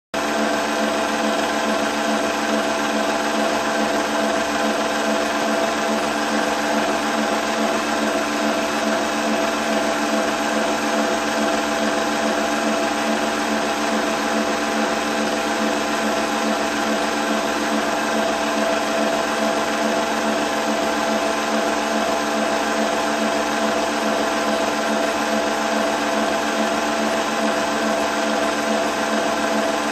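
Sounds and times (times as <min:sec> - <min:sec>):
film projector running: 0:00.2 - 0:29.9.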